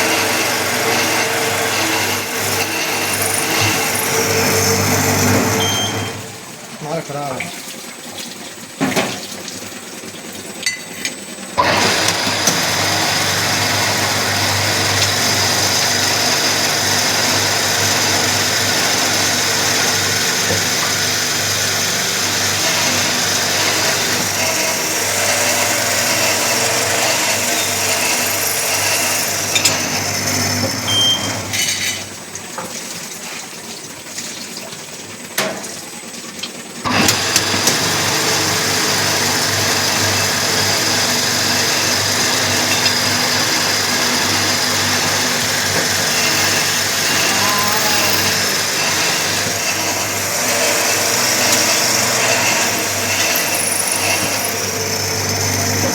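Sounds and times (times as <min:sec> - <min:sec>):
drilling machine humming: 0:00.0 - 0:06.8, 0:11.6 - 0:32.0, 0:36.8 - 0:55.9.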